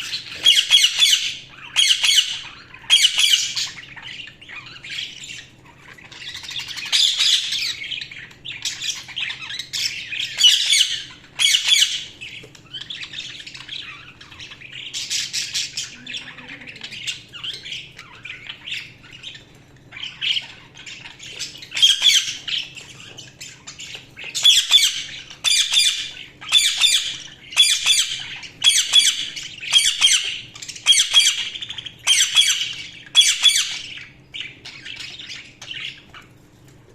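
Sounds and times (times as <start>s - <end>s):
budgies chirping and squawking: 0.0s - 36.9s.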